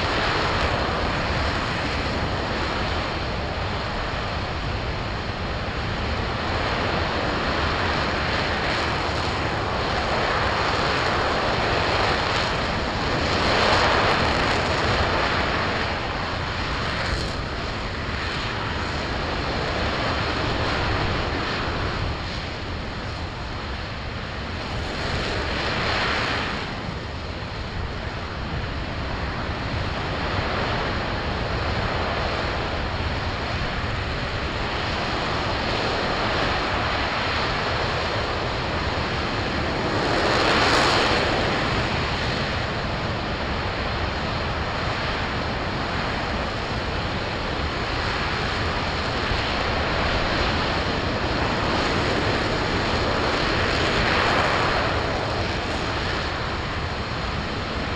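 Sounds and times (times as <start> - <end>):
rocket engine rushing: 0.0 - 57.9.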